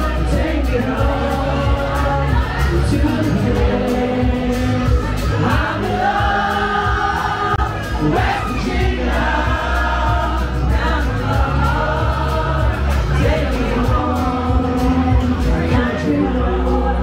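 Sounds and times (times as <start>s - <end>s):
acoustic guitar: 0.0s - 17.0s
man singing: 0.0s - 17.0s
steady bass beat: 0.0s - 17.0s
voices singing together: 0.0s - 17.0s
woman singing lead vocal: 0.0s - 17.0s.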